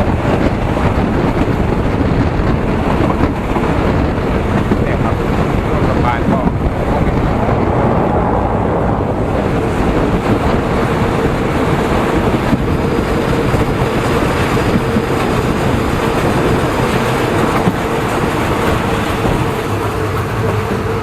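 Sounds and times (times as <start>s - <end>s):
moving train rumble: 0.0s - 21.0s.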